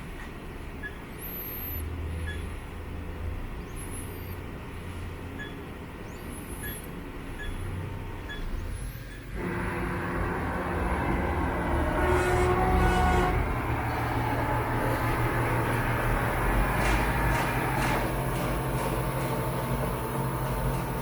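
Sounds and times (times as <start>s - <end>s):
machinery humming: 0.6s - 21.0s.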